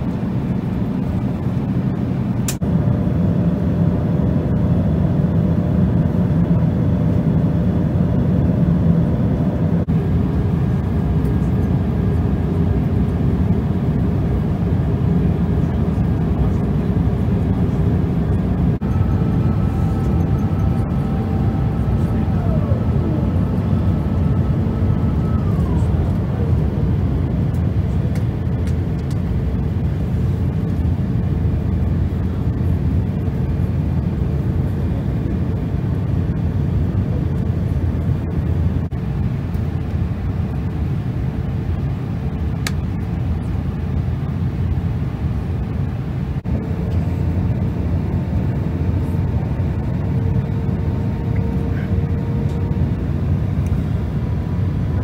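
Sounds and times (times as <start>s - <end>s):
airliner cabin air rush and drone: 0.0s - 55.0s
faint engine whine: 0.0s - 55.0s.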